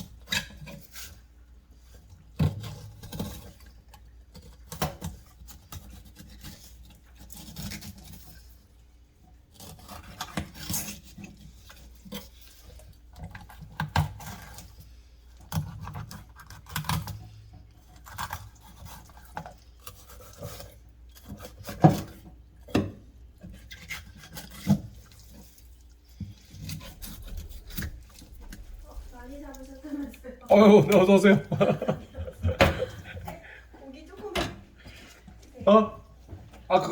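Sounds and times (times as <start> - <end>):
knife scraping through fish: 0.0 - 30.2.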